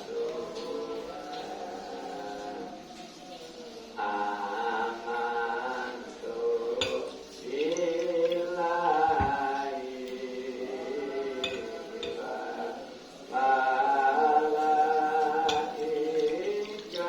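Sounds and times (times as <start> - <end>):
chanting voices in held notes: 0.0 - 17.0.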